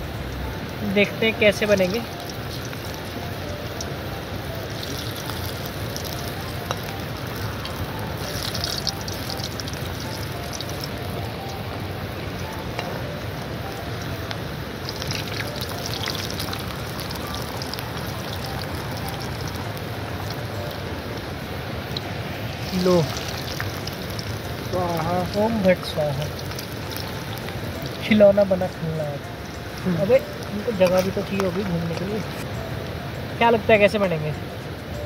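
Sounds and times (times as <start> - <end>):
river rushing: 0.0 - 35.0.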